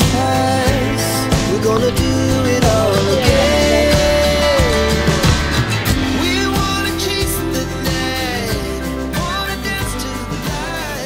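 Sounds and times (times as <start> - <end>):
pop music with singing: 0.0 - 11.0.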